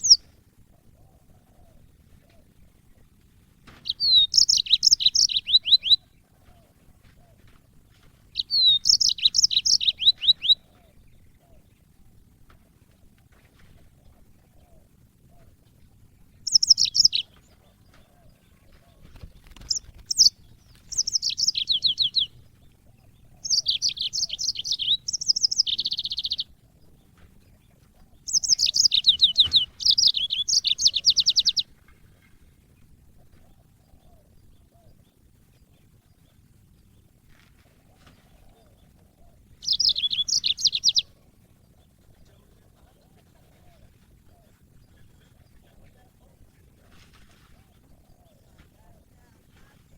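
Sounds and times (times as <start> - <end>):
canary singing trilled phrases: 0.0 - 12.5, 14.2 - 37.2, 38.0 - 49.9.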